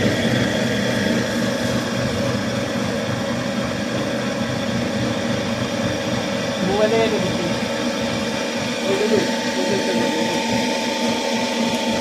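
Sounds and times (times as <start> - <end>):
band saw running: 0.0 - 12.0.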